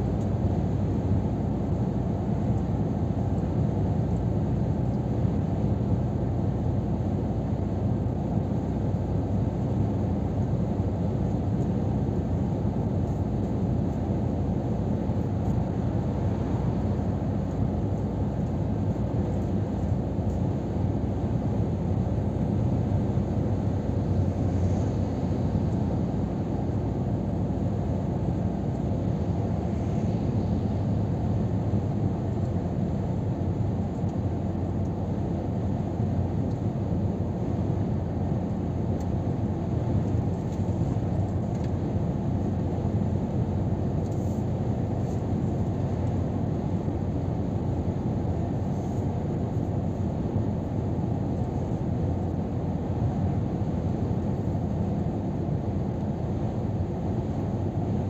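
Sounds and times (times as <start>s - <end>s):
truck engine rumble: 0.0s - 58.0s.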